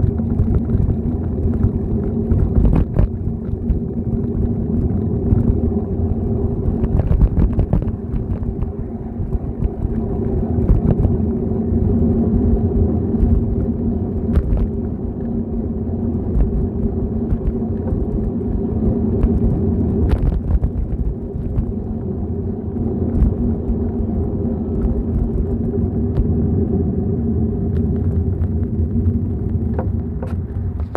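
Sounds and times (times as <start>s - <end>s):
bicycle rolling on asphalt: 0.0s - 30.9s.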